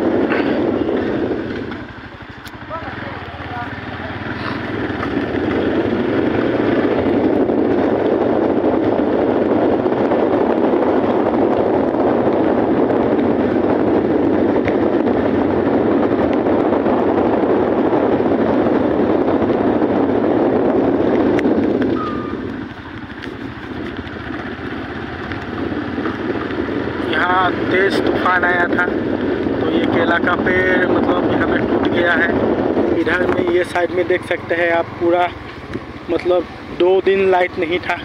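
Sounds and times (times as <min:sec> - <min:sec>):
motorcycle engine: 0:00.0 - 0:38.0
wind and road noise: 0:00.0 - 0:38.0.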